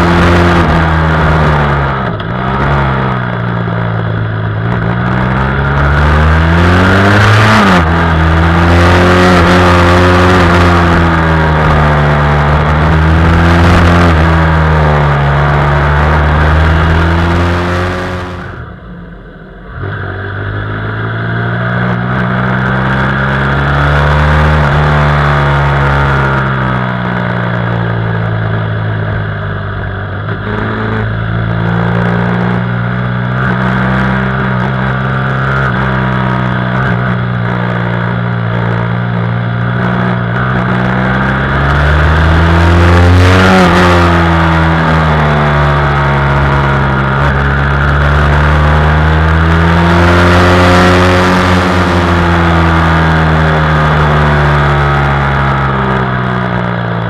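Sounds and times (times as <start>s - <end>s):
motorcycle engine revving: 0.0s - 18.9s, 19.6s - 57.0s.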